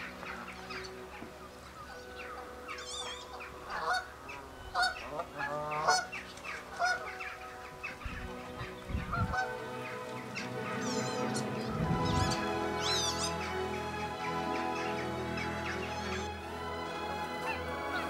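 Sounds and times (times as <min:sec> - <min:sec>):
geese honking: 0:00.0 - 0:18.0
wavering whistled bird calls: 0:00.0 - 0:18.0.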